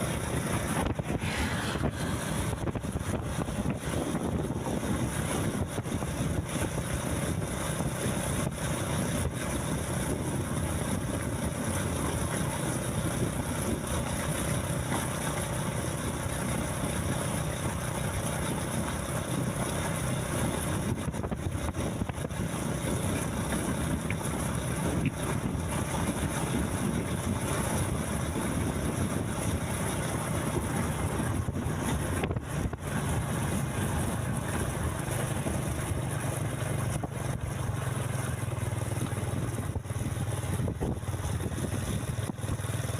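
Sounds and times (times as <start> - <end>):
road noise: 0.0 - 42.9
vehicle engine running: 0.0 - 42.9.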